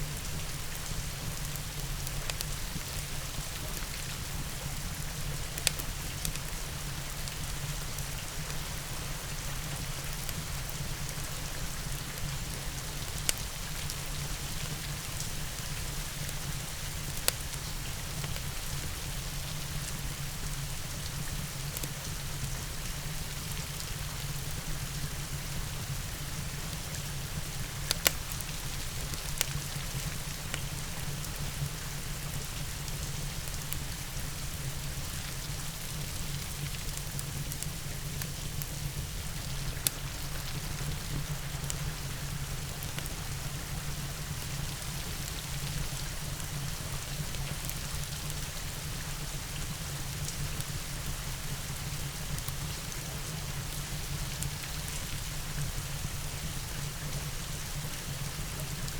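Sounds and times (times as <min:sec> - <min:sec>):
wood fire crackling: 0:00.0 - 0:57.0
steady rain: 0:00.0 - 0:58.9.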